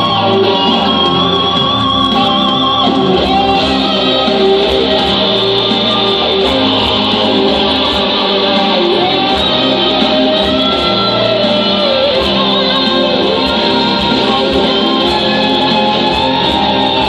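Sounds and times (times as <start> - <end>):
backing band with bass line: 0.0 - 17.0
electric guitar melody: 0.0 - 17.0.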